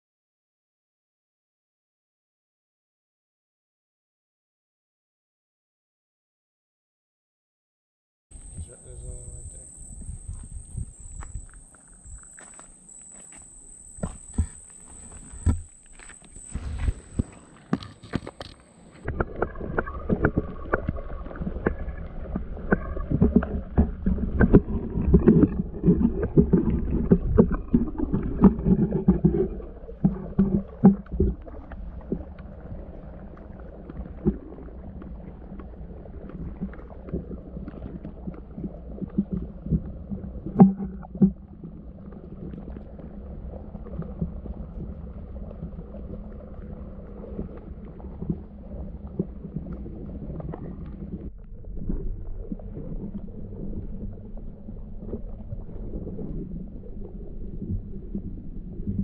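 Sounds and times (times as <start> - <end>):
knocks and clicks underwater: 8.4 - 59.0
underwater sloshing and rumbling: 8.4 - 59.0.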